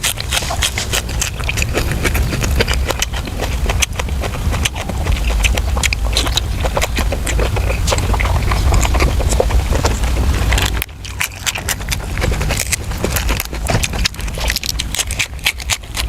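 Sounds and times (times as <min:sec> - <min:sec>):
close chewing and mouth smacks: 0:00.0 - 0:16.0
steady low rumble: 0:00.0 - 0:16.0.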